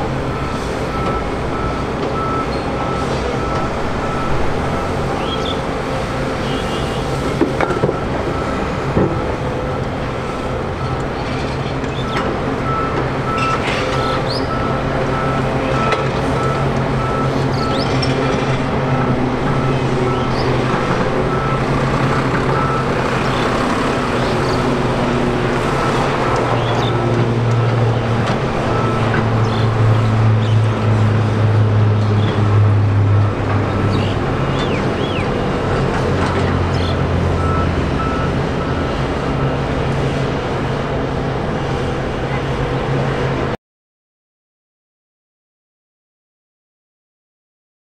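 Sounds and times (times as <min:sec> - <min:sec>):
deep engine drone: 0:00.0 - 0:43.6
heavy vehicle engines: 0:00.0 - 0:43.6.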